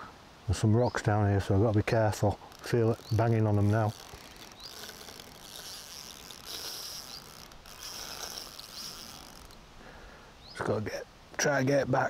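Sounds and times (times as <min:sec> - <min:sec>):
quiet outdoor background noise: 0:00.0 - 0:12.0
insects chirring: 0:00.9 - 0:10.6.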